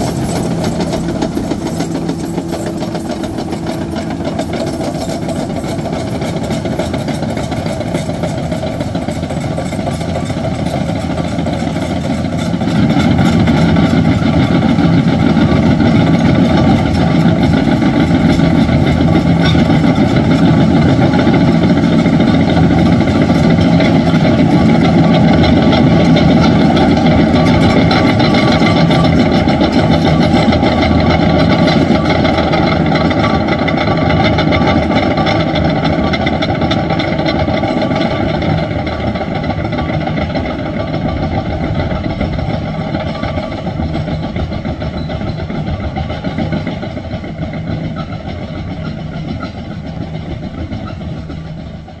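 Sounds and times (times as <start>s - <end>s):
diesel engine running: 0.0s - 52.0s
steel tracks squeaking and clanking: 0.0s - 52.0s.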